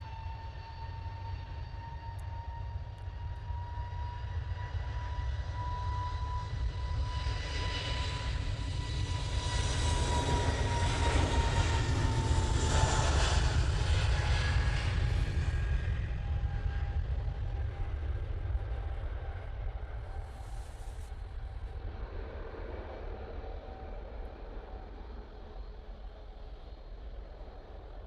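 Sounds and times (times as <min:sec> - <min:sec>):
jet engines at takeoff power: 0:00.0 - 0:28.0.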